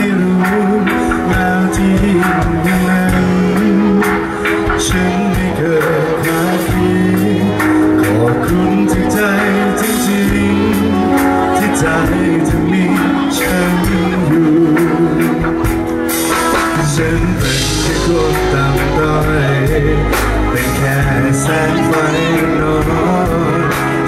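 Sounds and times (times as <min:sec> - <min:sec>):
live band playing: 0:00.0 - 0:24.0
man singing into a microphone: 0:00.0 - 0:24.0.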